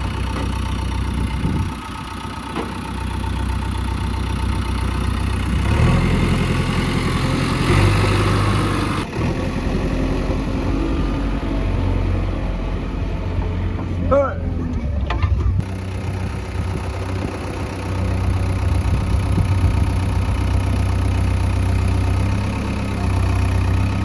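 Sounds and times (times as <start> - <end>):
diesel backhoe engine running: 0.0 - 24.0.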